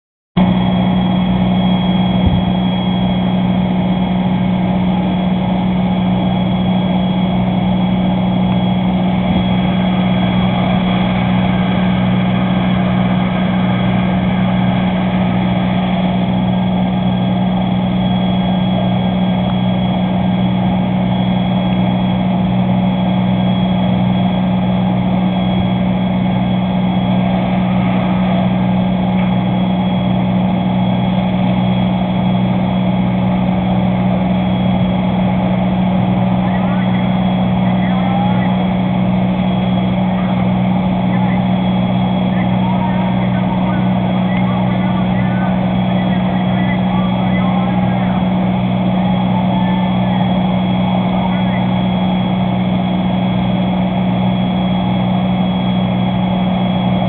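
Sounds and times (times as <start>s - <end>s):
fire engine droning: 0.4s - 57.0s.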